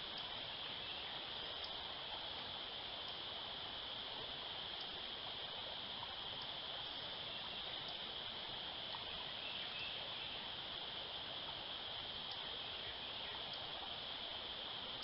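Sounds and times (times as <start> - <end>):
creek water running: 0.0 - 15.0
high-pitched insect drone: 0.0 - 15.0.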